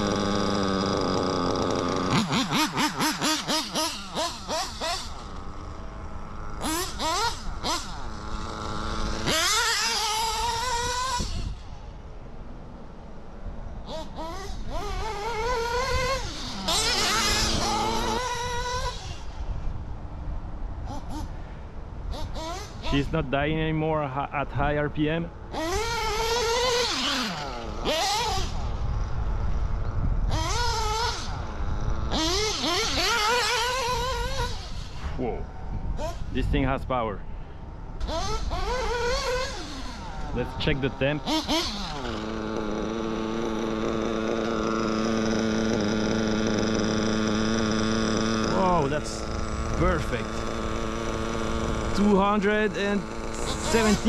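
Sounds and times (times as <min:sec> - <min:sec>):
model engine revving: 0:00.0 - 0:11.8, 0:13.8 - 0:19.4, 0:22.1 - 0:23.6, 0:25.5 - 0:35.0, 0:38.0 - 0:54.0.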